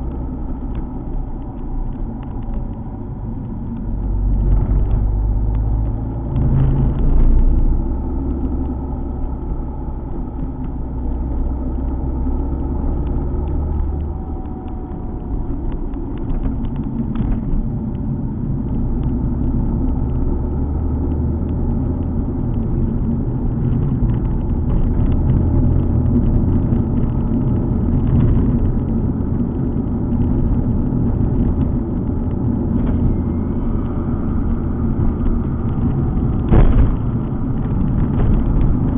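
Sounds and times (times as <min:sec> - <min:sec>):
car engine low rumble: 0:00.0 - 0:38.9
road noise: 0:00.0 - 0:38.9.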